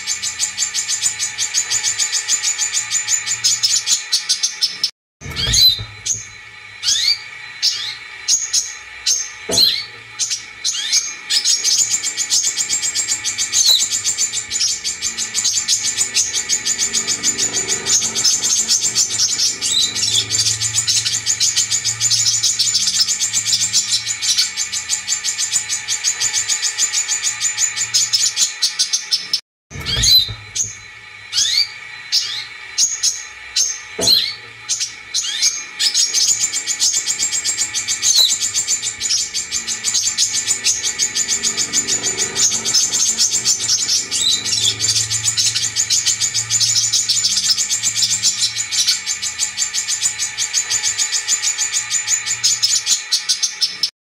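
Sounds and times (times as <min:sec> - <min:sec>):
bird chattering high chirps: 0:00.0 - 0:53.9.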